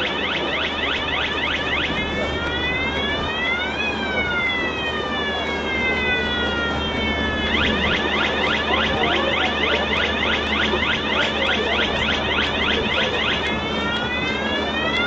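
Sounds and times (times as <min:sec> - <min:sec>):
warning siren whooping and wailing: 0:00.0 - 0:15.0.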